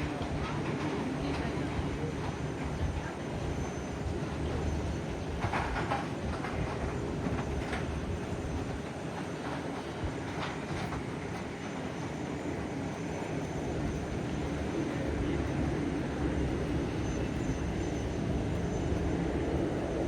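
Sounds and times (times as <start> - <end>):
jet engines rumbling with whine: 0.0 - 20.0.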